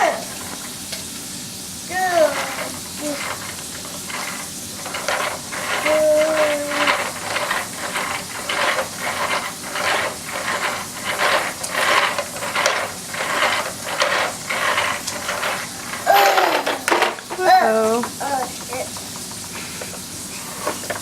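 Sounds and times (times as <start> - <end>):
toy airplane mechanism clattering: 1.9 - 21.0.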